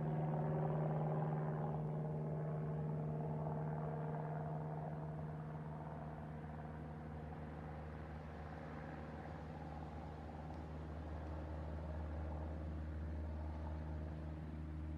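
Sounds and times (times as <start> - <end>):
light aircraft engine droning: 0.0 - 14.9.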